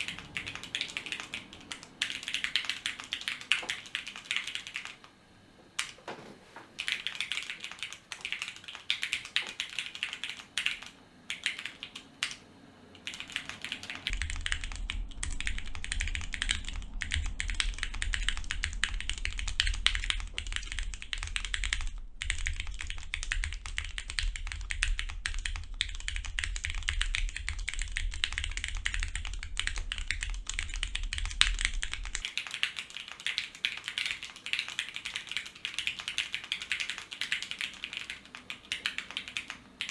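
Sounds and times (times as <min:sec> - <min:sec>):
fast typing on mechanical keyboard: 0:00.0 - 0:05.2, 0:05.8 - 0:39.9
steady low hum: 0:00.0 - 0:39.9.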